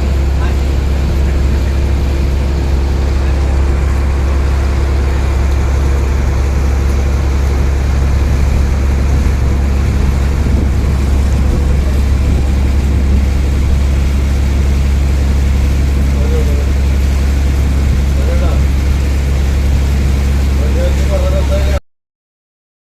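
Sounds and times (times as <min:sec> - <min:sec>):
vehicle engine droning: 0:00.0 - 0:21.8.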